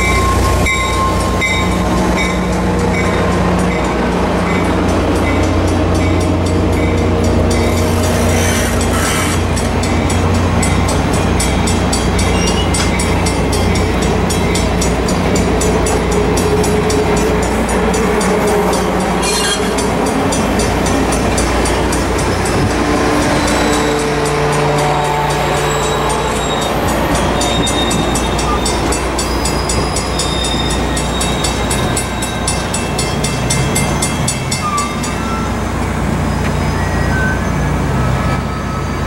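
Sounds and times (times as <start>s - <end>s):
rail joint clicks: 0.0s - 39.0s
train wheels rumbling on rail: 0.0s - 39.0s.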